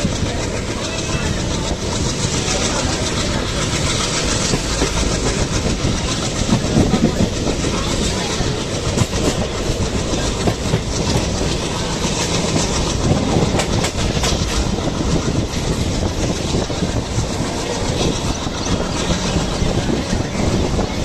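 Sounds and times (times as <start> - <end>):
train running rumble: 0.0 - 21.0
wheels clacking over rail joints: 0.0 - 21.0.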